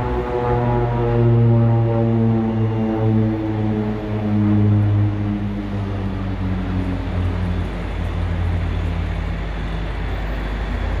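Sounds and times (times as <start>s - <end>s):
turboprop aircraft propeller drone: 0.0s - 11.0s.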